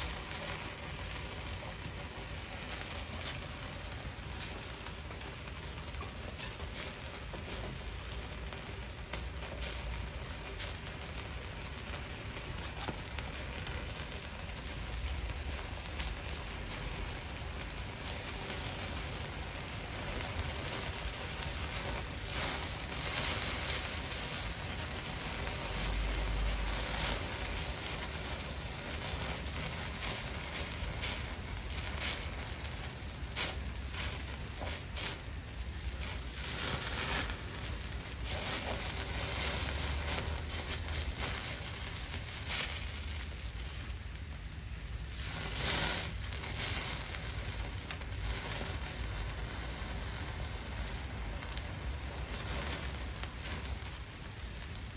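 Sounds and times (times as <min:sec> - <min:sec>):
meat sizzling over campfire: 0:00.0 - 0:54.9.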